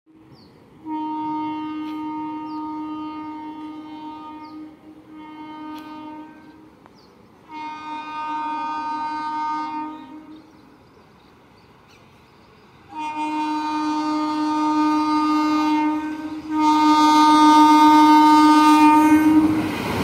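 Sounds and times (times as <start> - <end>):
train horn blasts: 0.1 - 6.8, 7.4 - 10.7, 12.9 - 19.8.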